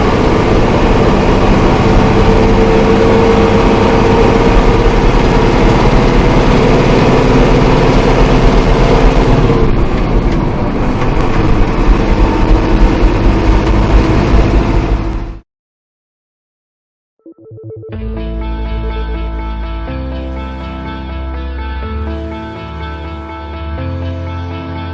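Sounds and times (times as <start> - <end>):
farm machinery engine droning: 0.0 - 15.4, 18.8 - 24.9.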